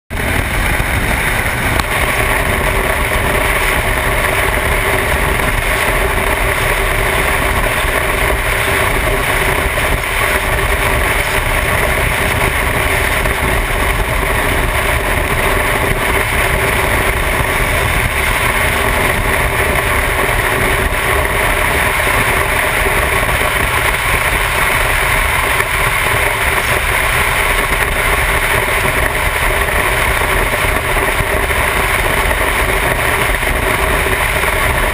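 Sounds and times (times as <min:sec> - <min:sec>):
motorcycle engine cruising: 0:00.1 - 0:34.9
wind and road noise: 0:00.1 - 0:34.9.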